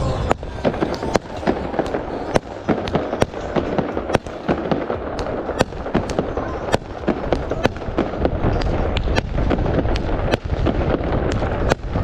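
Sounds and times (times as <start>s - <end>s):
distant fireworks rumble: 0.0s - 12.0s
fireworks bangs and pops: 0.0s - 12.0s.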